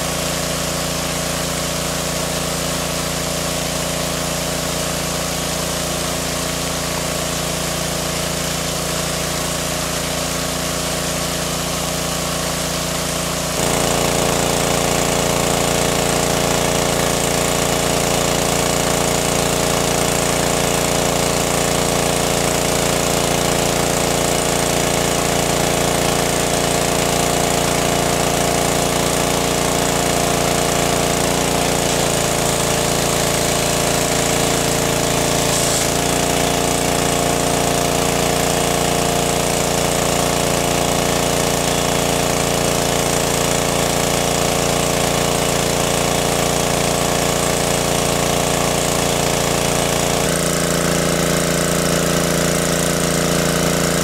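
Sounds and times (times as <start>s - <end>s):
engine-driven water pump running: 0.0s - 54.0s.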